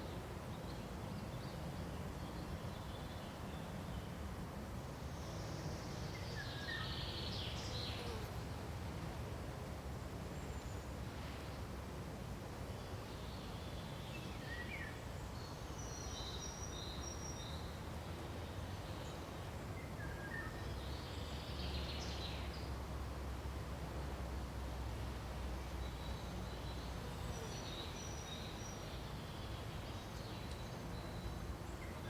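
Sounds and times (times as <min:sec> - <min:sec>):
steady hiss over low rumble: 0:00.0 - 0:32.0.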